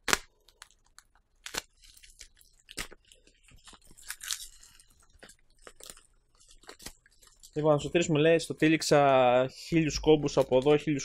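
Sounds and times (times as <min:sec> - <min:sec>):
plastic wrapping crinkling and tearing: 0:00.0 - 0:08.6, 0:10.2 - 0:11.0.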